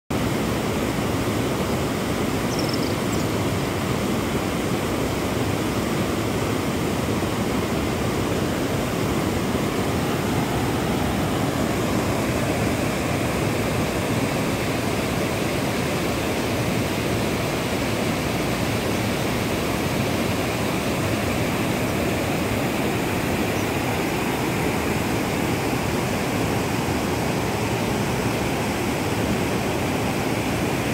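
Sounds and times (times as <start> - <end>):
water rushing over rocks: 0.1 - 30.9.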